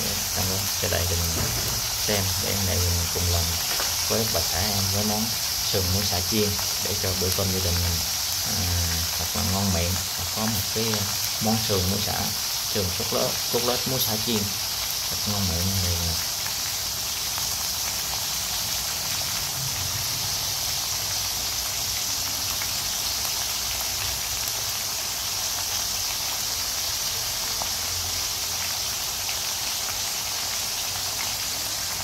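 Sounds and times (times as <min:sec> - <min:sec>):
meat sizzling in hot oil: 0:00.0 - 0:32.0.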